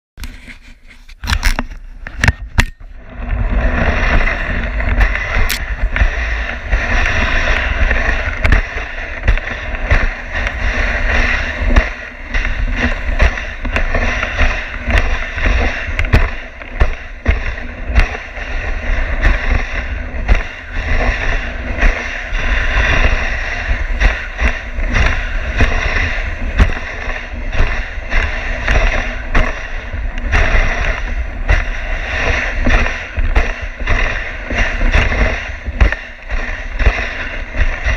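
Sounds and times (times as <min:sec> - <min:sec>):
sled runners hissing on snow: 0:03.2 - 0:37.9
sled knocking over bumps: 0:03.4 - 0:37.9.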